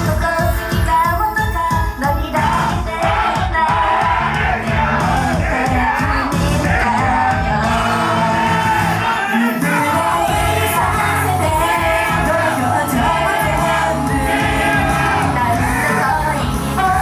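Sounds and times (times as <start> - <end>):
female group vocals: 0.0 - 17.0
pop song over sound system: 0.0 - 17.0
crowd shouting along: 2.4 - 17.0.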